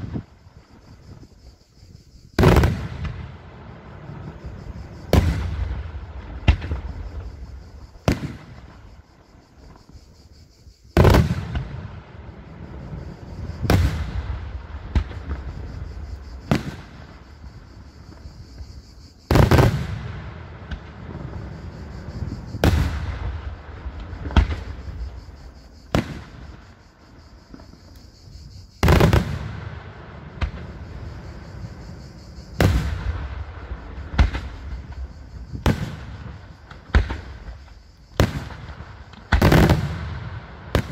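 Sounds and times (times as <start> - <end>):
fireworks booming with rumbling echo: 0.0 - 10.0, 10.9 - 40.9.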